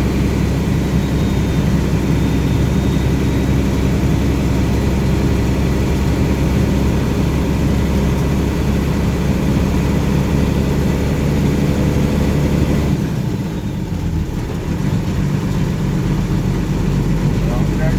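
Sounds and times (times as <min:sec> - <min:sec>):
truck engine droning: 0:00.0 - 0:17.9.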